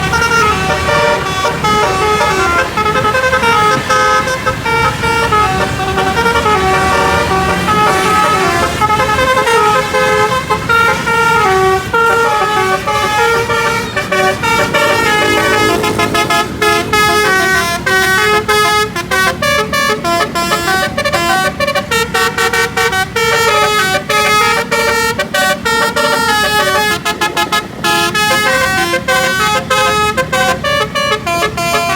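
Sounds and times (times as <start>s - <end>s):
multi-tone bus air horn tune: 0.0s - 31.9s.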